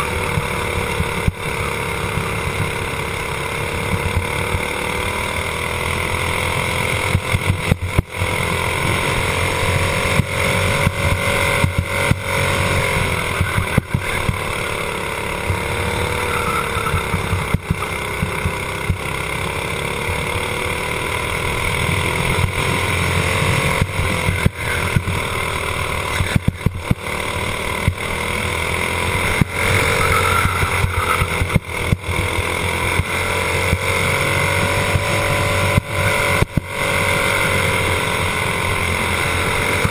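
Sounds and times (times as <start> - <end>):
racing kart engine running hard: 0.0 - 39.9.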